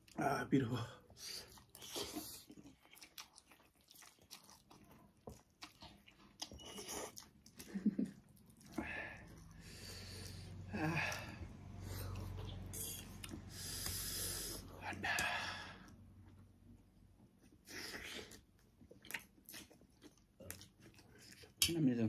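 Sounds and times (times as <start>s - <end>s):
chewing and eating noodles: 1.0s - 21.8s.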